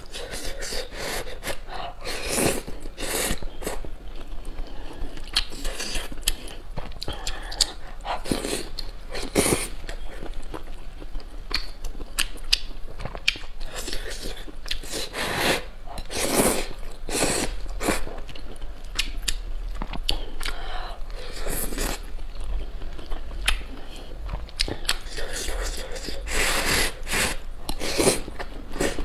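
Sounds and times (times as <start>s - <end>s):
wet chewing: 0.2s - 29.0s.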